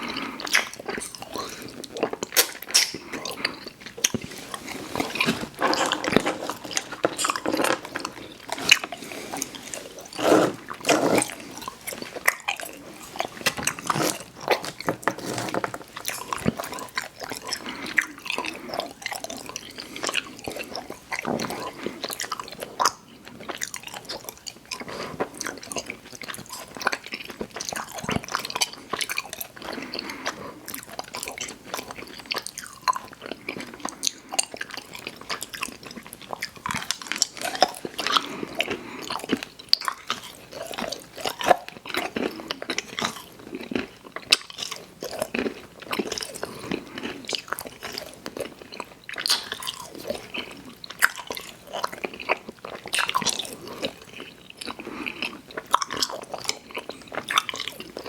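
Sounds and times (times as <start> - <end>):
close-miked chewing: 0.0 - 58.0.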